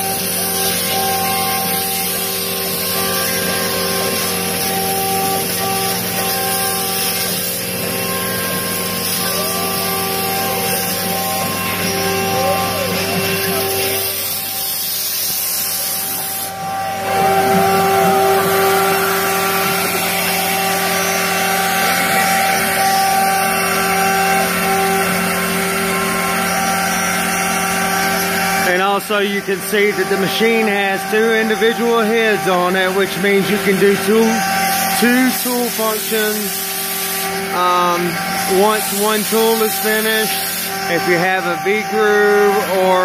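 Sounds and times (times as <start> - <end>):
router bit cutting hiss: 0.0 - 43.0
router spindle whine: 0.0 - 43.0
whines gliding in pitch: 0.0 - 43.0.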